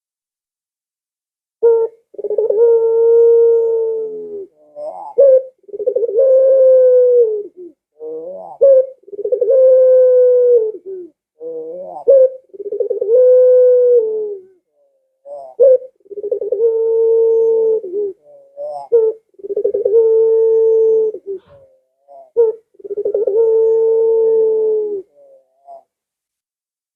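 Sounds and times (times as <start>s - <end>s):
dove cooing: 1.6s - 25.9s.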